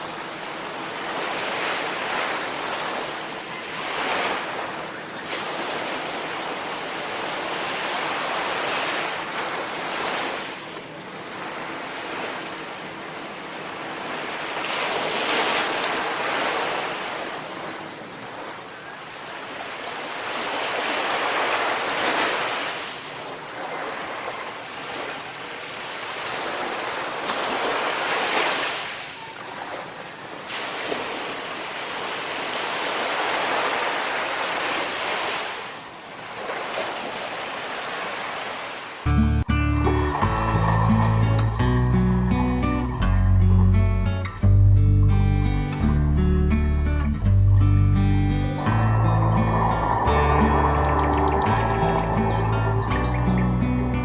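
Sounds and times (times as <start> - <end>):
sea waves breaking on shore: 0.0 - 39.1, 39.8 - 44.4, 48.2 - 54.0.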